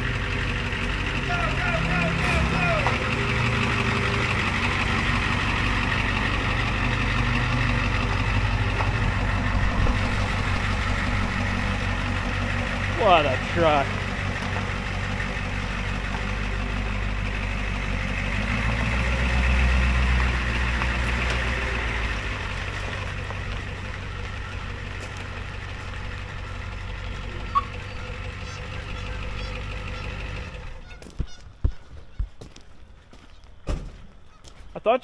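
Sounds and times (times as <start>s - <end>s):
diesel truck engine: 0.0s - 35.0s.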